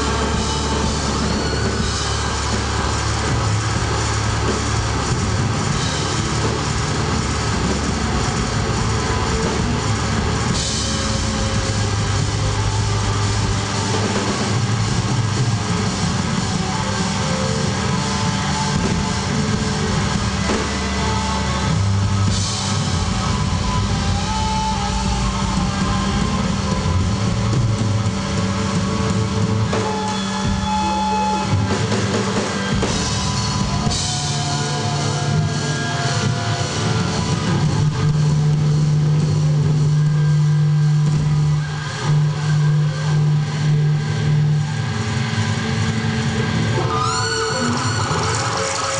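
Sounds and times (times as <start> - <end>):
distorted electric guitar feedback: 0.0 - 48.9
drums: 0.0 - 48.9
low drone: 0.0 - 48.9.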